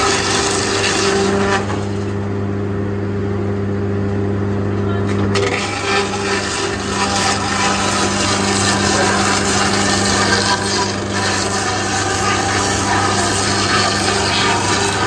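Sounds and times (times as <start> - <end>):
sawmill machine humming: 0.0 - 3.5, 4.9 - 15.0.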